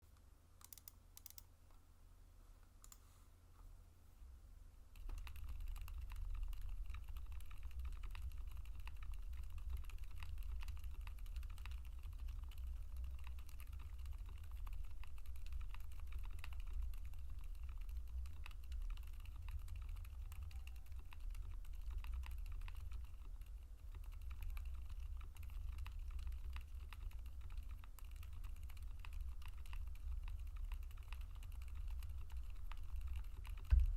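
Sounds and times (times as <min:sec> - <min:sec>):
typing on mechanical keyboard: 0:00.6 - 0:01.4, 0:05.0 - 0:33.9.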